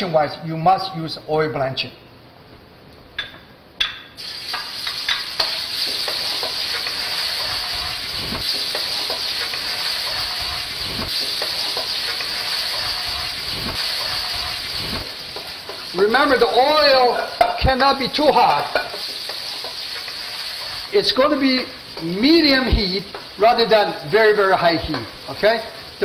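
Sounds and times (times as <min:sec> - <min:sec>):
meat sizzling in hot oil: 0:04.2 - 0:26.0.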